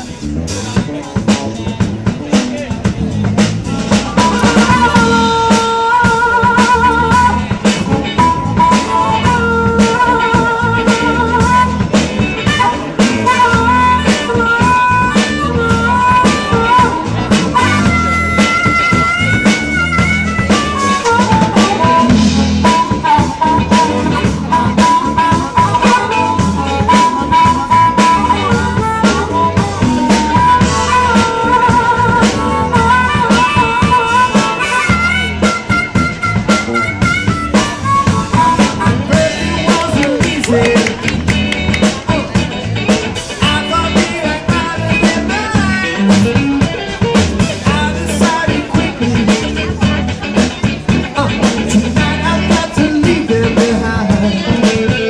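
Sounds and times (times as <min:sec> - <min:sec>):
drum kit steady beat: 0:00.0 - 0:55.0
wavering lead melody: 0:00.0 - 0:55.0.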